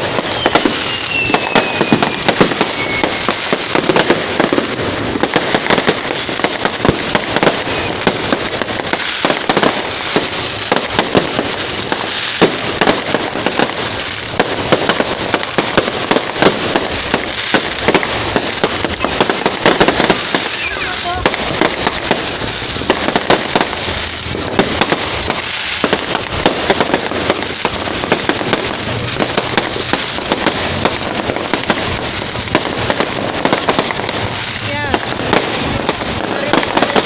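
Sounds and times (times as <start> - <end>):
firecrackers popping: 0.0 - 37.0.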